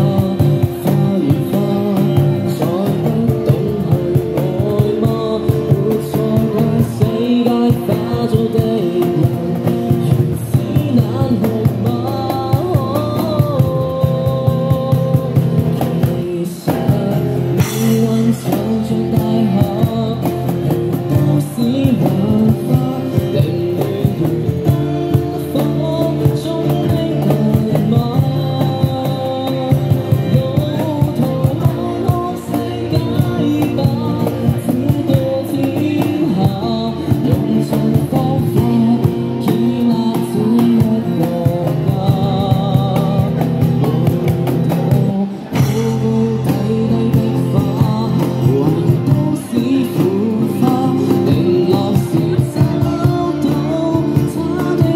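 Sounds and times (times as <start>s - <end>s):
guitar: 0.0s - 54.9s
man singing into a microphone: 0.0s - 54.9s
steady beat: 0.0s - 54.9s.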